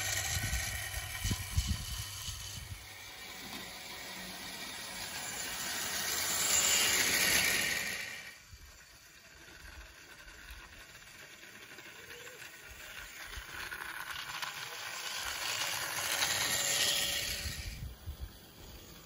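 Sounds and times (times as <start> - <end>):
model locomotive rattling on rails: 0.0 - 19.0.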